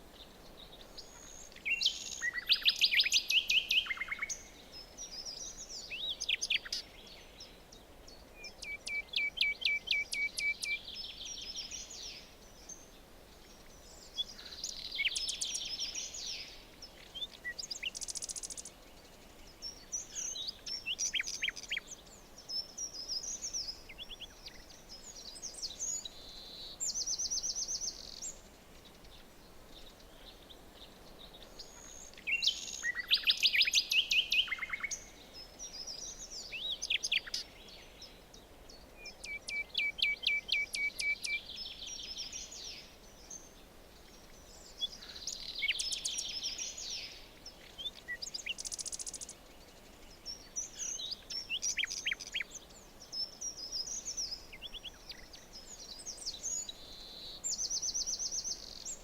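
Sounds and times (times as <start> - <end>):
faint steady hiss: 0.0 - 59.0
songbirds singing and calling: 0.0 - 59.0.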